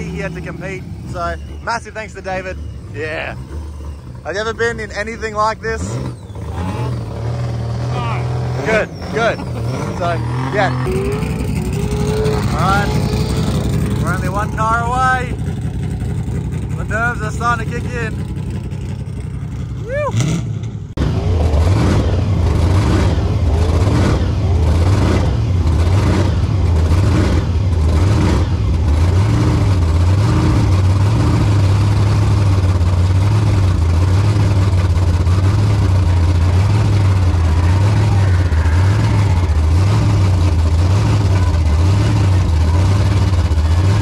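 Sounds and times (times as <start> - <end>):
car engine revving hard: 0.0 - 18.2, 20.1 - 44.0.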